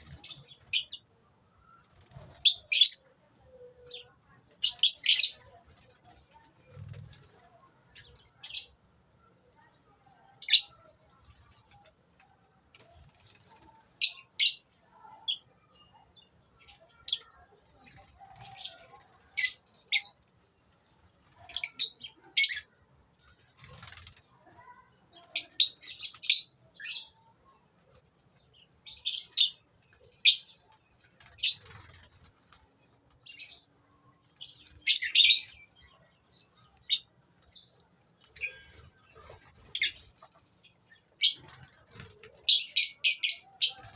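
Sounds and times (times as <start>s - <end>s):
birds chirping and squeaking: 0.0s - 1.1s, 1.7s - 3.2s, 3.8s - 8.8s, 10.4s - 11.9s, 12.8s - 27.3s, 27.9s - 43.9s.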